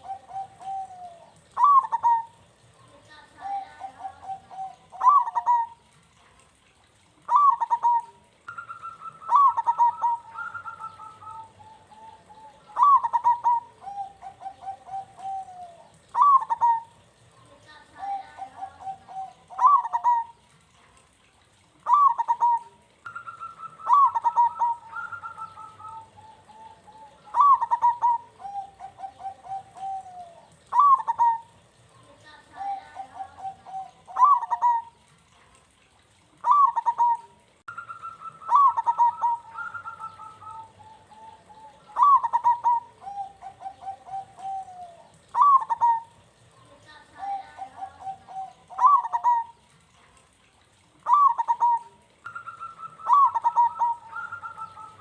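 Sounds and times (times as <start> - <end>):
dove cooing: 0.0 - 6.0, 6.9 - 20.9, 21.8 - 35.4, 36.1 - 50.0, 51.0 - 55.0.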